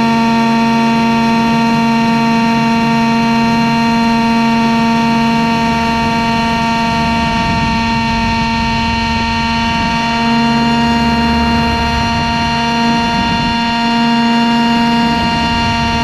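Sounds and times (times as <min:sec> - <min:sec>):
model helicopter rotors whining: 0:00.0 - 0:16.0.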